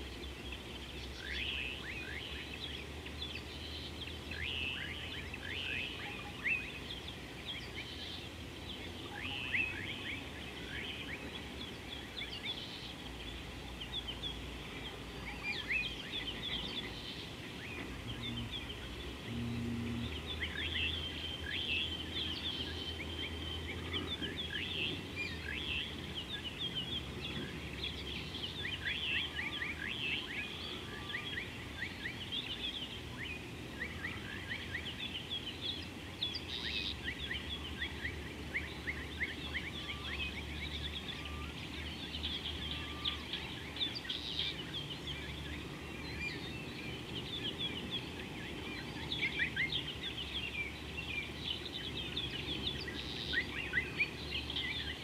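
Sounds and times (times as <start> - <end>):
low steady hum: 0.0 - 46.8
chorus of birds calling: 0.0 - 55.0.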